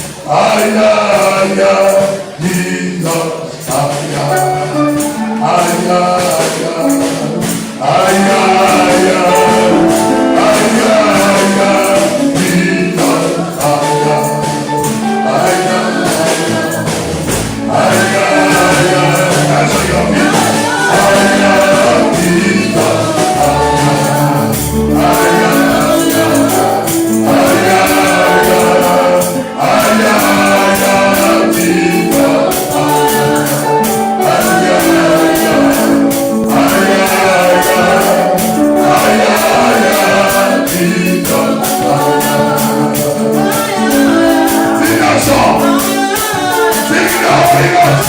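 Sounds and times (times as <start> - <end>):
choir singing: 0.0 - 48.0
keyboard: 0.0 - 48.0
tambourine shaking: 0.0 - 48.0.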